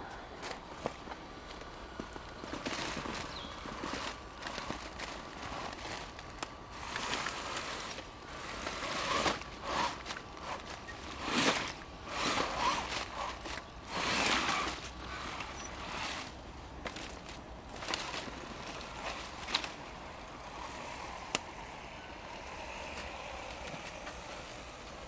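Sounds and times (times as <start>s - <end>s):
footsteps in undergrowth: 0.0s - 25.0s
rustling of leaves and brush: 0.0s - 25.0s
electric motor whine: 1.6s - 25.0s.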